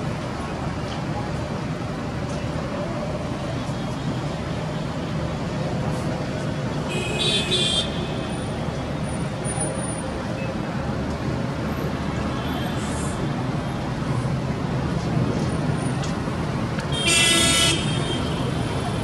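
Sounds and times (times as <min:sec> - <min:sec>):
city traffic: 0:00.0 - 0:19.0.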